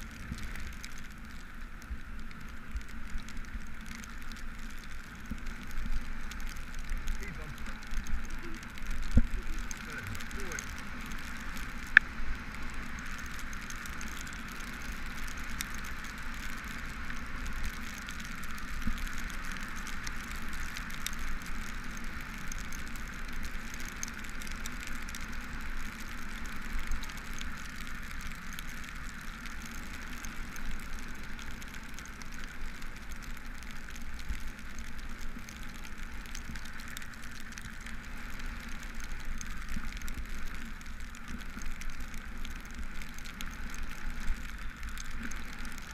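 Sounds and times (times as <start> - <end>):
bicycle tyres hissing on wet road: 0.0 - 45.9
raindrops ticking on housing: 0.0 - 45.9
wind rumbling on camera: 0.0 - 45.9.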